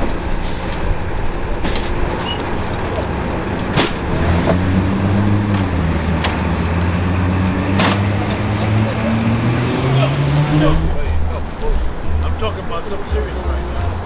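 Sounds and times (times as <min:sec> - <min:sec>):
large vehicle engine hum: 0:00.0 - 0:14.0
traffic noise: 0:00.0 - 0:14.0.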